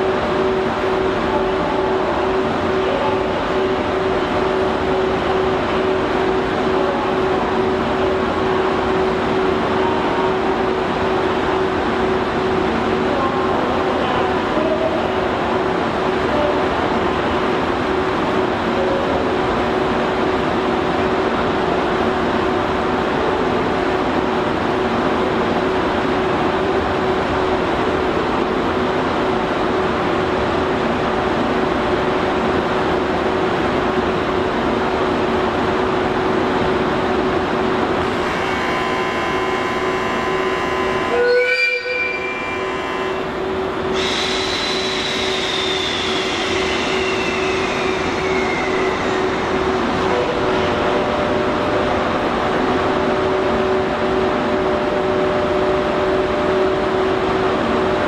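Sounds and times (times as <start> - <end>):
train rushing: 0.0 - 58.0.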